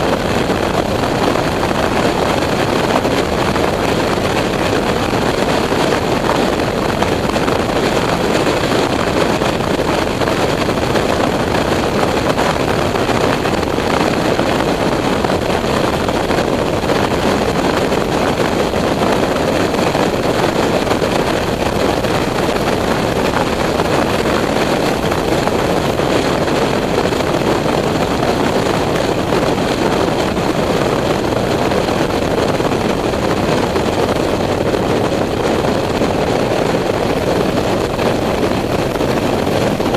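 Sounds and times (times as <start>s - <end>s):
motorcycle engine: 0.0s - 39.9s
wind buffeting microphone: 0.0s - 39.9s.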